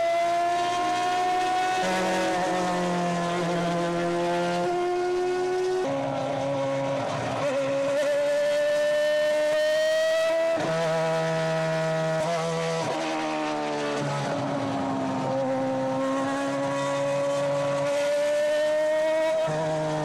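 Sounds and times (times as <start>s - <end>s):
racing car engine at high revs: 0.0s - 20.0s.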